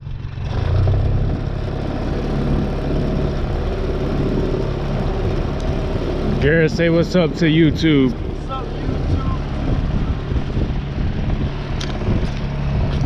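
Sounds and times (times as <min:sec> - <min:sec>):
engine humming: 0:00.0 - 0:13.0
rushing noise: 0:00.2 - 0:13.0.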